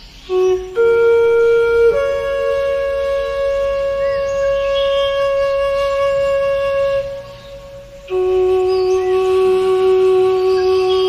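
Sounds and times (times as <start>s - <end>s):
wind instrument long steady note: 0.2s - 11.0s.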